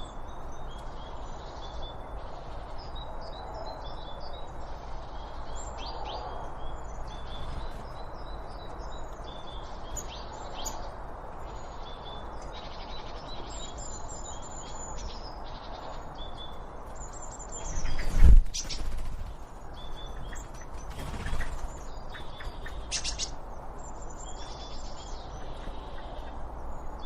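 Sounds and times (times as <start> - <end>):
songbirds chirping and trilling: 0.0 - 27.0.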